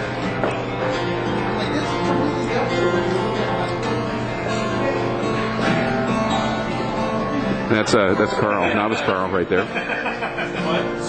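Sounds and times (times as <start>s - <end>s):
guitar strumming: 0.0s - 11.0s.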